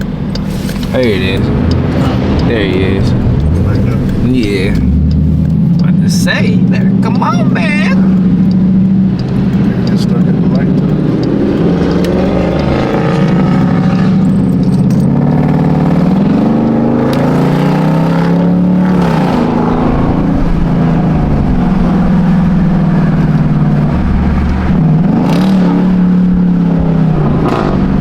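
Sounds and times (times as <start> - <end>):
car engine accelerating through gears: 0.0 - 28.0.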